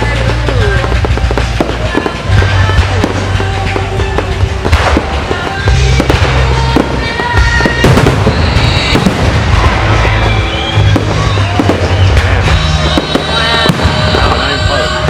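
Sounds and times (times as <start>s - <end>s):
fireworks bangs and crackles: 0.0s - 15.0s
music with heavy bass: 0.0s - 15.0s.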